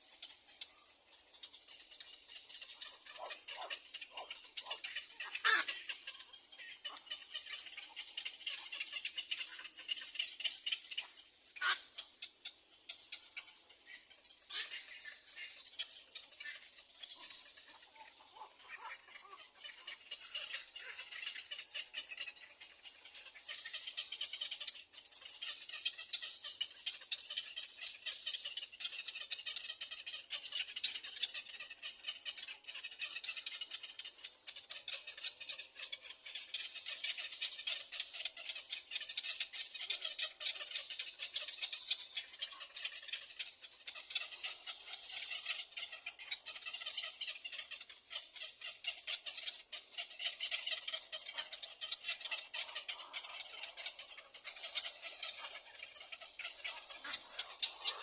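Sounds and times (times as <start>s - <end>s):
nestlings begging chatter: 0.0s - 58.0s.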